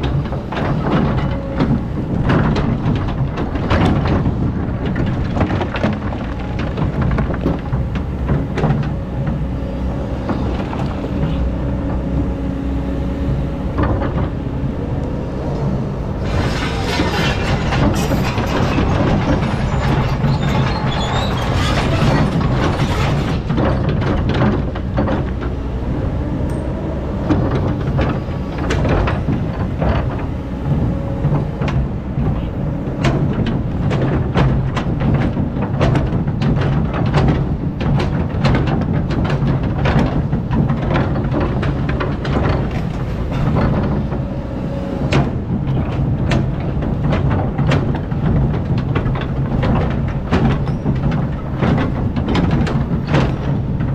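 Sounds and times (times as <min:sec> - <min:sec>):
excavator diesel engine running: 0:00.0 - 0:53.9
knocks and clanks: 0:00.0 - 0:53.9.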